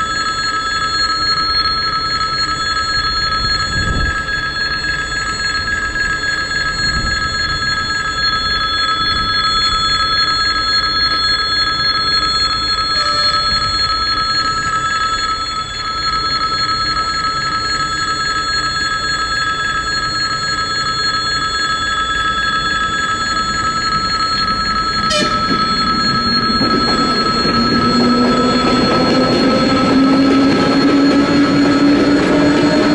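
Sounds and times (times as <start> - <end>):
approaching electric train: 0.0 - 32.9
level-crossing warning bell ringing: 0.0 - 32.9.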